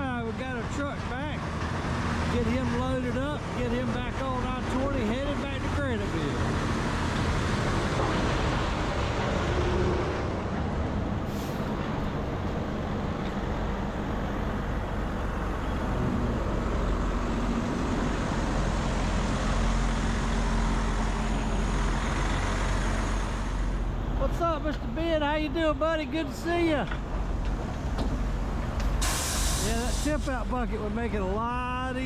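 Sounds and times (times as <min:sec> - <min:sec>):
heavy diesel engine drone: 0:00.0 - 0:32.0.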